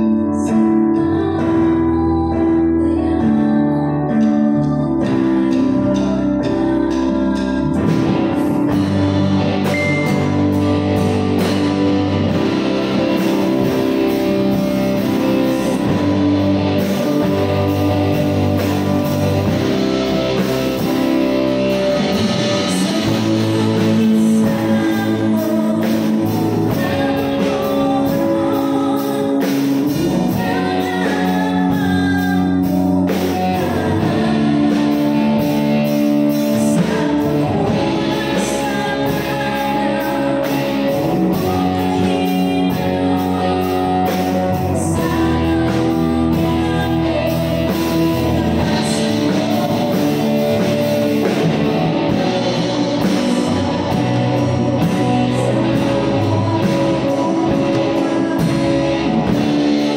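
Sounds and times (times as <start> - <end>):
live band playing: 0.0 - 59.9
woman singing: 0.0 - 59.9.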